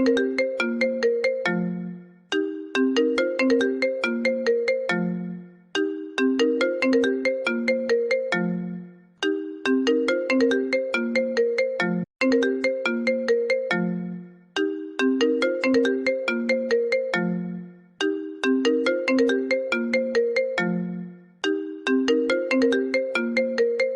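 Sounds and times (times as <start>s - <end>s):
phone ringtone melody: 0.0s - 23.9s.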